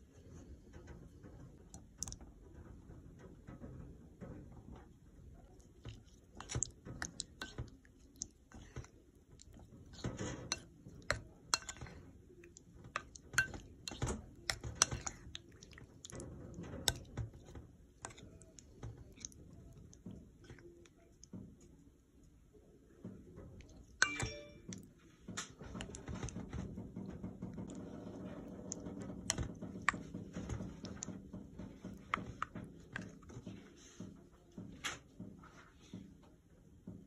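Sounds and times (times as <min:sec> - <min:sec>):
wet squelches of stirring yogurt: 0:00.0 - 0:37.0.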